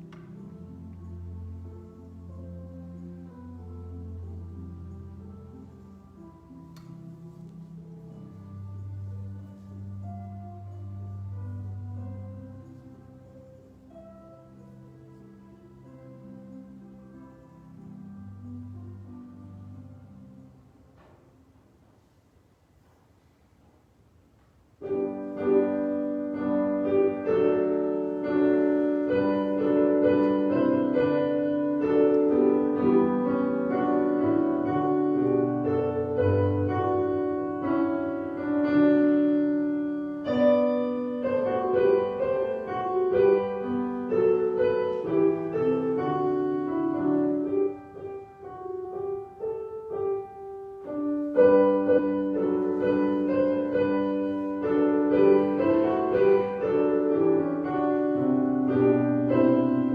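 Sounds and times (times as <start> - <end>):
piano music: 0.0 - 22.4, 24.7 - 59.9.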